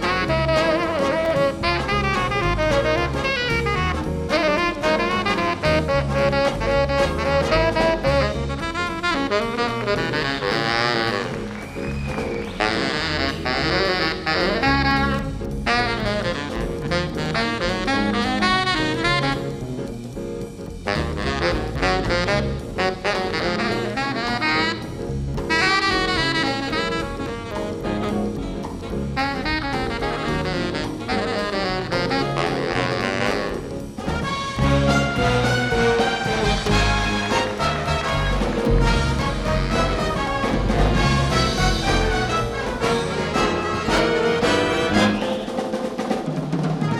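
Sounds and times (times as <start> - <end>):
saxophone melody: 0.0 - 20.1, 20.8 - 45.8
jazz band playing: 0.0 - 46.9.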